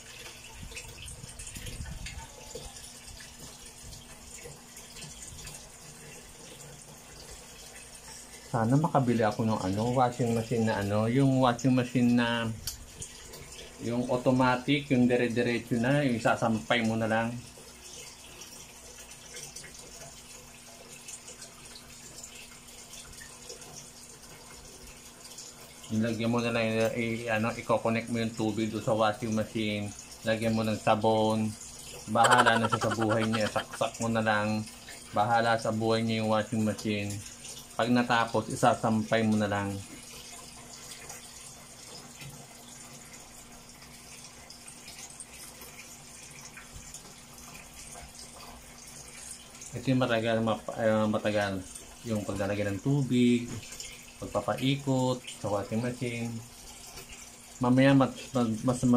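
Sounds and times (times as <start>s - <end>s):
water running into tub: 0.0s - 58.9s.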